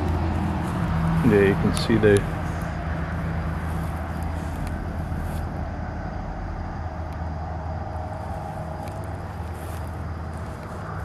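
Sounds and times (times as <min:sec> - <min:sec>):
traffic hum and rumble: 0:00.0 - 0:11.0.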